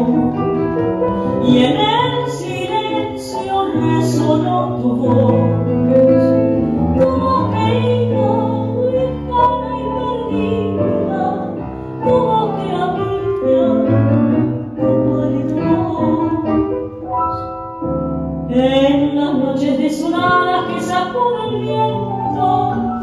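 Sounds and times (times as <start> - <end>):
tango music playing: 0.0 - 23.0.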